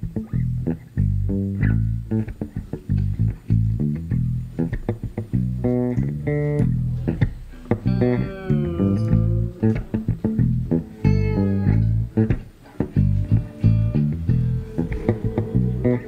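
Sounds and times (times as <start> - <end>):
bass guitar groove: 0.0 - 16.0
guitar plucked notes: 0.0 - 16.0.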